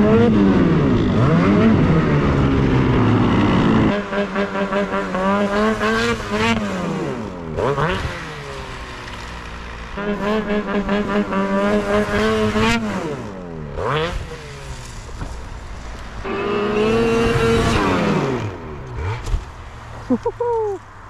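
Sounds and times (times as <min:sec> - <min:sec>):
snowmobile engine revving: 0:00.0 - 0:20.8.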